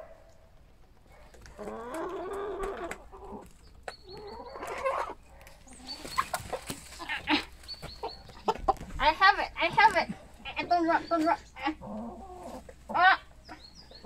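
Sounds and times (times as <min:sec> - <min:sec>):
chickens clucking: 0:00.5 - 0:14.0.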